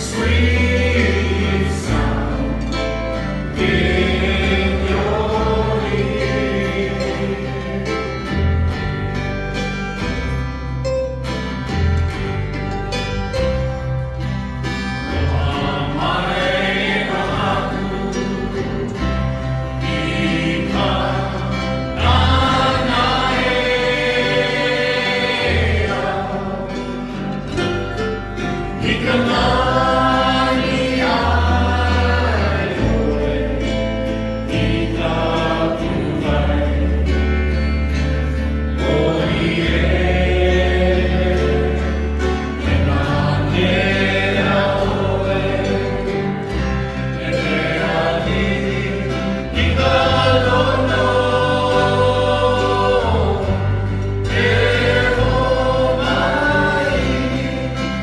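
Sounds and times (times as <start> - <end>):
group of voices singing: 0.0 - 9.2, 13.6 - 58.0
guitar: 0.0 - 58.0
low bass line: 0.0 - 58.0.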